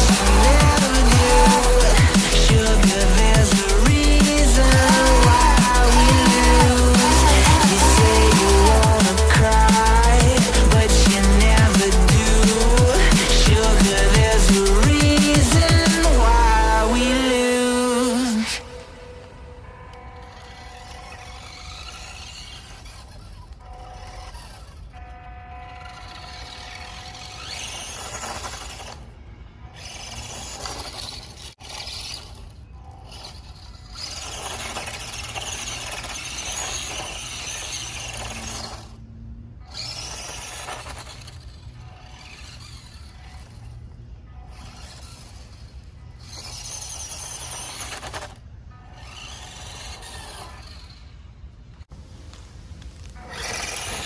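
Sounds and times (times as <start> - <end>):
toy truck motor and gears whining: 0.0 - 51.9, 52.7 - 54.0.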